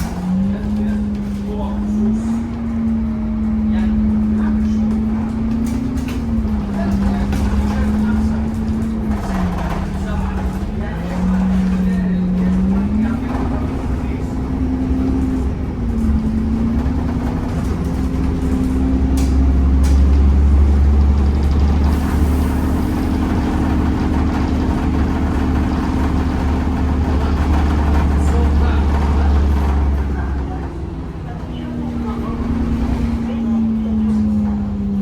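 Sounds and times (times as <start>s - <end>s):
deep bus engine drone: 0.0s - 35.0s.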